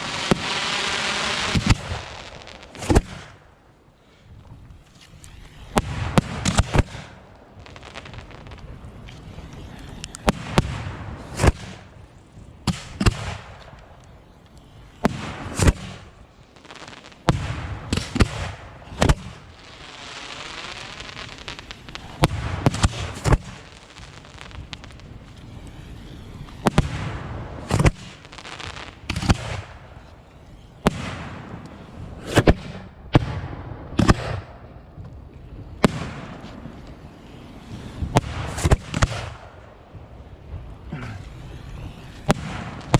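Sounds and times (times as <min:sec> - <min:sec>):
fireworks bangs: 0:00.0 - 0:03.6, 0:04.9 - 0:42.9
fireworks hissing: 0:00.0 - 0:12.0, 0:12.8 - 0:32.7, 0:35.4 - 0:42.9.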